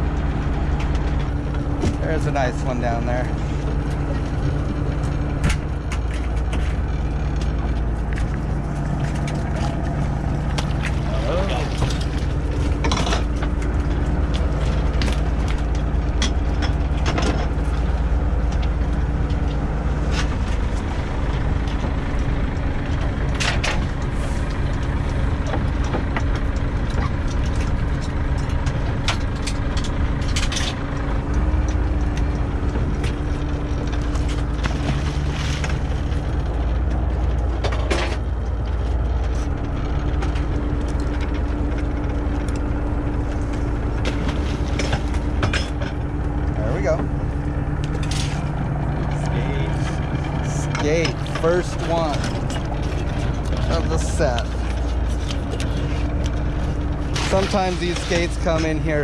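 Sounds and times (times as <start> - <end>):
boat engine droning: 0.0 - 59.0
gear clanking on metal rail: 0.0 - 59.0.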